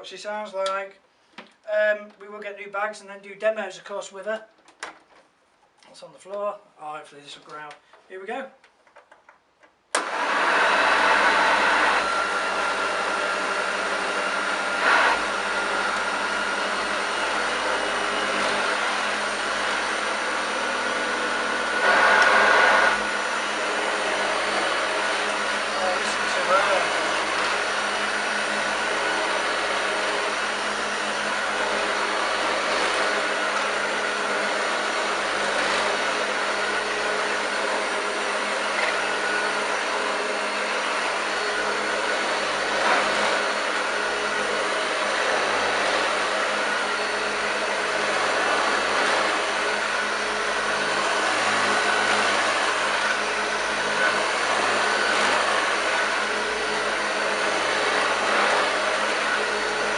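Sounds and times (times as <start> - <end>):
vacuum cleaner running on carpet: 10.0 - 59.9.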